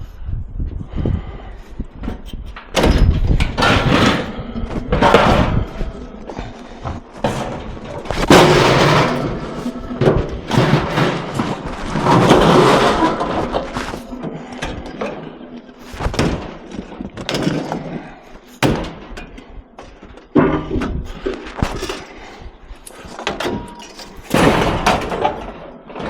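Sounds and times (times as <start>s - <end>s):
scrap metal banging and clattering: 1.2s - 26.0s.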